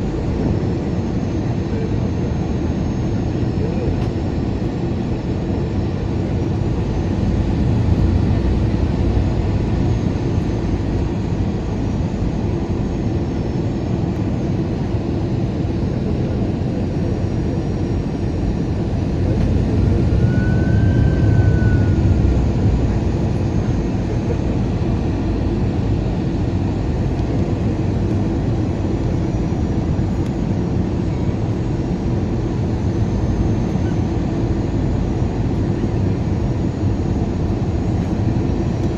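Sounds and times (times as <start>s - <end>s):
airplane cabin engine roar: 0.0s - 38.9s.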